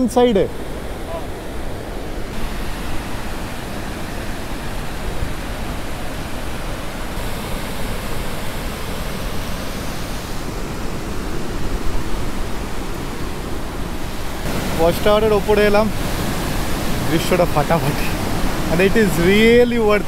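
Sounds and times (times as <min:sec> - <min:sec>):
river rushing over rapids: 0:00.0 - 0:20.0.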